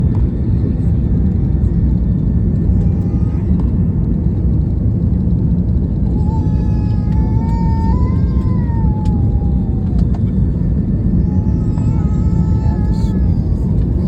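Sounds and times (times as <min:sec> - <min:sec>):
faint whine: 0:00.0 - 0:14.0
jet engines rumbling: 0:00.0 - 0:14.0.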